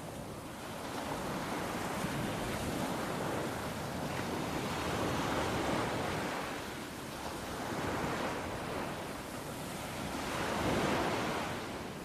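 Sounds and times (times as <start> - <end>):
sea surf washing in: 0.0 - 12.0
wind: 0.0 - 12.0.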